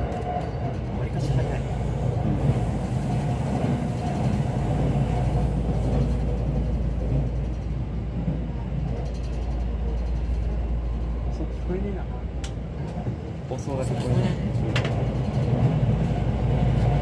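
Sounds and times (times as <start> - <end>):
train running low rumble: 0.0 - 17.0.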